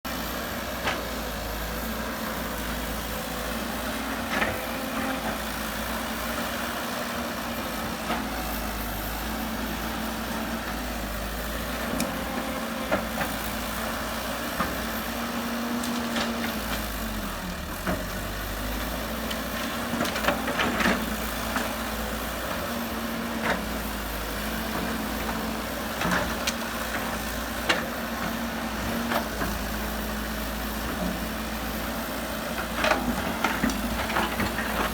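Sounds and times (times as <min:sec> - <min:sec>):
heavy machinery diesel engine: 0:00.0 - 0:34.9.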